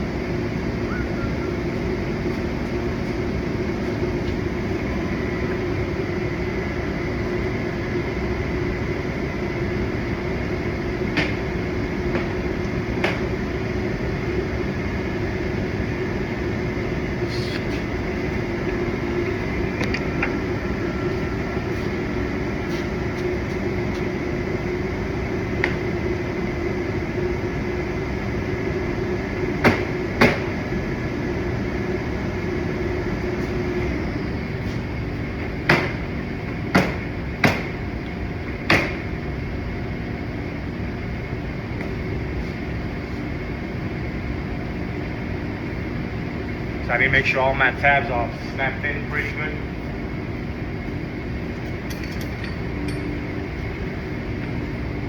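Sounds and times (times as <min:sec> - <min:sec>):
background hum: 0:00.0 - 0:55.0.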